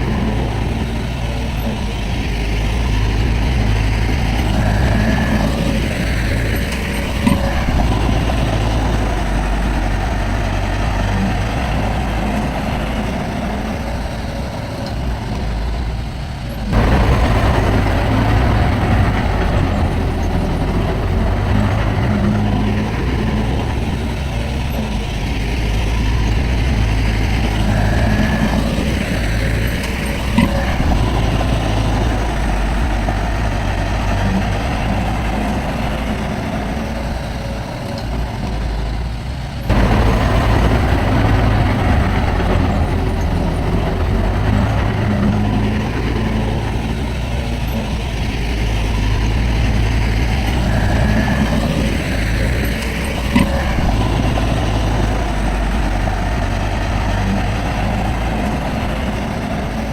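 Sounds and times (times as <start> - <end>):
earthmoving diesel engines rumbling: 0.0 - 59.9.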